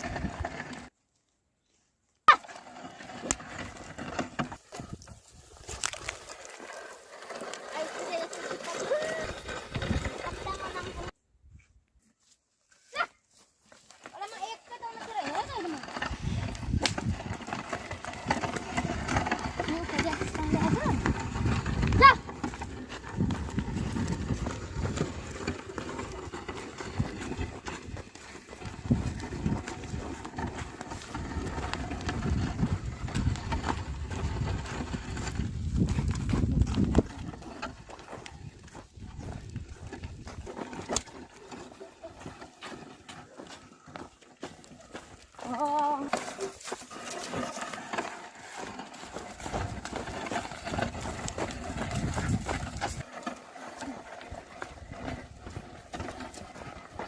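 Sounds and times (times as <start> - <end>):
hooves thudding and scuffing: 2.7 - 57.0.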